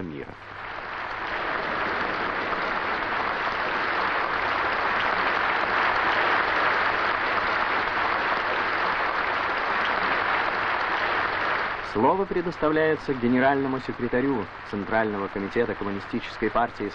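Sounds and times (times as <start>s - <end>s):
audience applauding: 0.4s - 16.9s.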